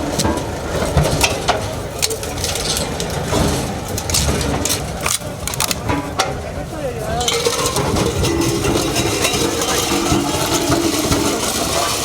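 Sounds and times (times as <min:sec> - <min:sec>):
metal exhaust pipes crunching: 0:00.0 - 0:12.0
road roller engine rumbling: 0:00.0 - 0:12.0.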